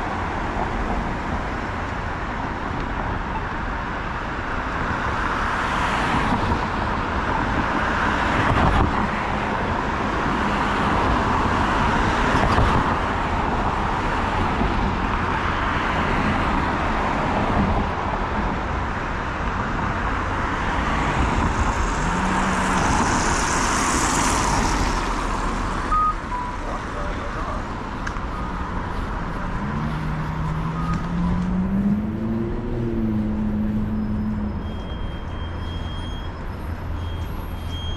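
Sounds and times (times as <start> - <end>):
cars driving by: 0.0 - 37.9.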